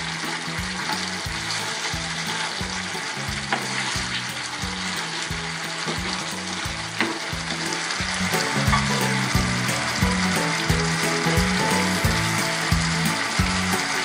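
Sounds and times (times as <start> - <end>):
fish in sauce sizzling and bubbling: 0.0 - 14.0.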